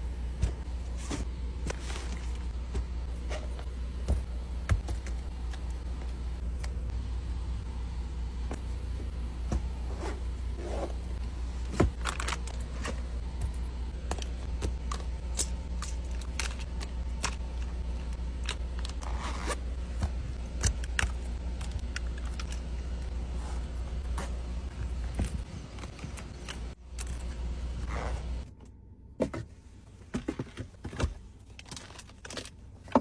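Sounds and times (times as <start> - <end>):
items scraping: 0.0 - 6.9, 8.0 - 28.4, 29.2 - 33.0
steady low hum: 0.0 - 33.0.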